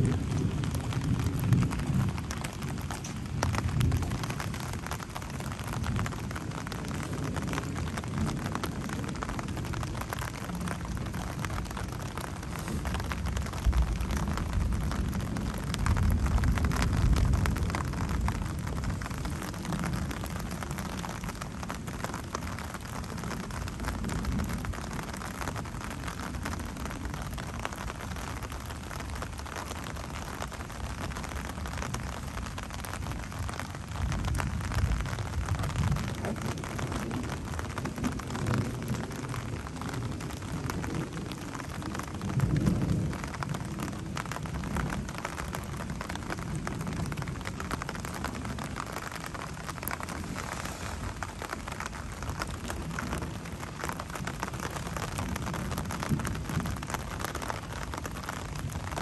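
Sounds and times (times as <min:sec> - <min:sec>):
steady rain falling: 0:00.0 - 0:59.0
thunder rumbling: 0:00.0 - 0:59.0.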